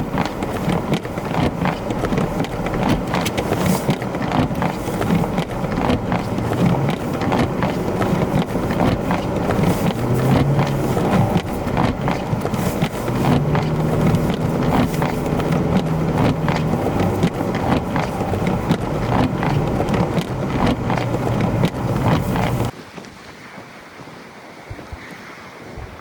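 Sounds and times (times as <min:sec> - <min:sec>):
knocks and thumps: 0:00.0 - 0:22.7
vehicle engine hum: 0:00.0 - 0:22.7
wind noise: 0:00.0 - 0:26.0.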